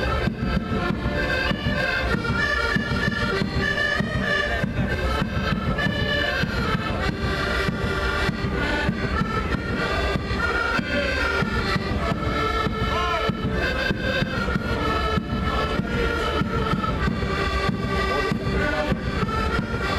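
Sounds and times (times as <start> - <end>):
accordions playing folk music: 0.0 - 19.9.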